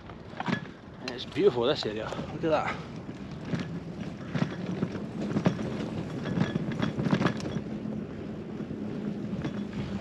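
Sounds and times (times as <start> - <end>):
bicycle rattling: 0.0 - 10.0.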